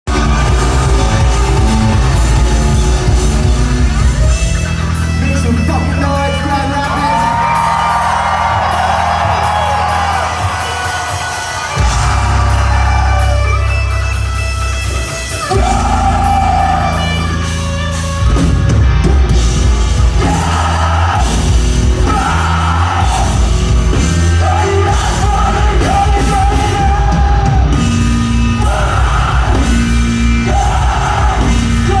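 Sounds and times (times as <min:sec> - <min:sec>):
rock band playing: 0:00.0 - 0:32.0
singer singing and yelling: 0:00.1 - 0:14.0, 0:15.3 - 0:17.6, 0:19.8 - 0:32.0.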